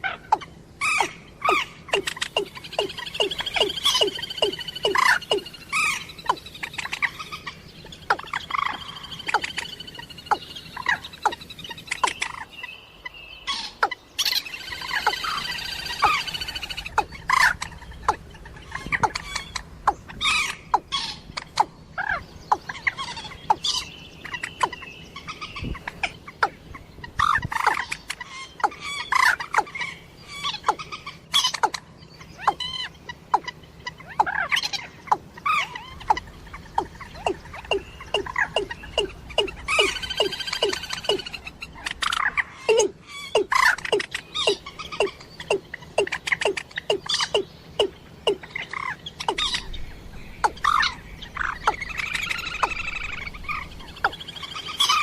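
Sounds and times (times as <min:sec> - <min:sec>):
recorded bird calls: 0:00.0 - 0:55.0.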